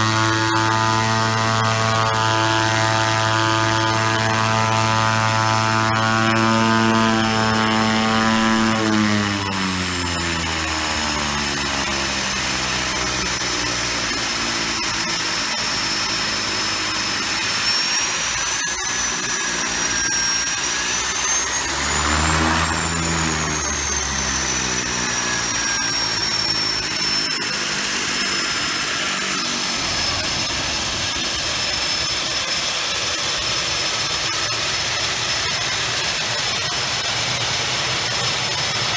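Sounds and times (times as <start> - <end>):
propeller beat: 0.0 - 38.9
turbine whine: 0.0 - 38.9.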